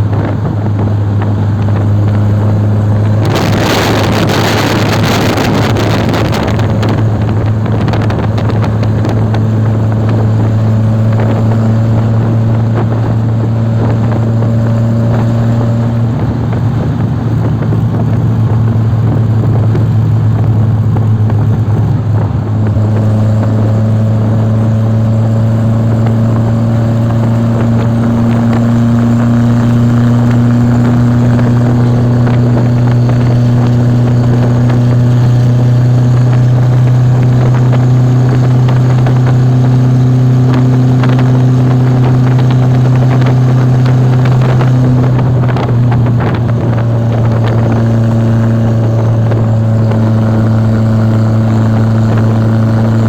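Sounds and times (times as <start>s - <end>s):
engine humming steadily: 0.0s - 53.0s
rushing air noise: 0.0s - 53.0s.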